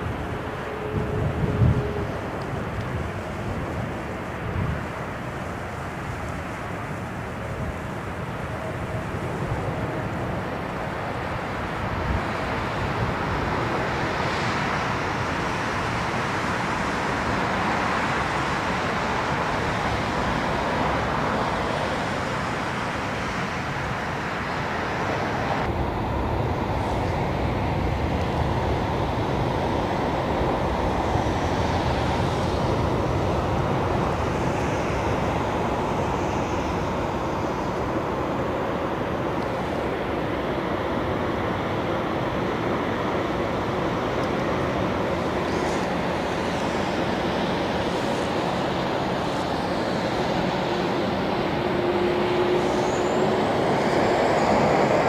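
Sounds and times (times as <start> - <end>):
jet engine noise: 0.0 - 55.0.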